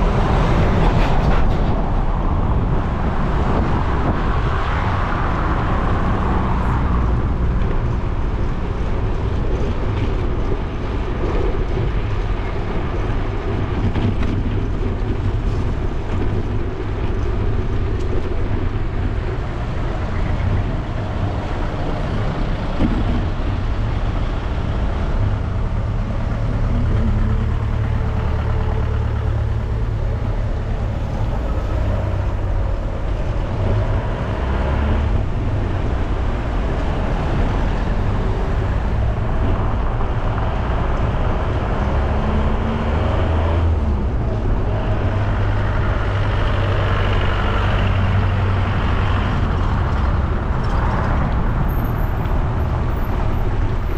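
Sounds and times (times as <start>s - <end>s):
cars and trucks passing: 0.0s - 53.9s
wind rumble on microphone: 0.0s - 53.9s.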